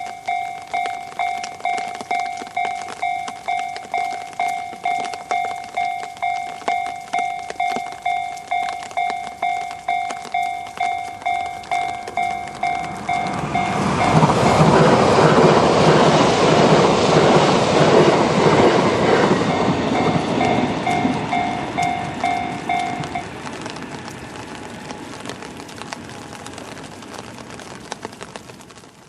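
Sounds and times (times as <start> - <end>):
level-crossing warning bell: 0.0 - 26.7
train passing: 0.0 - 27.4.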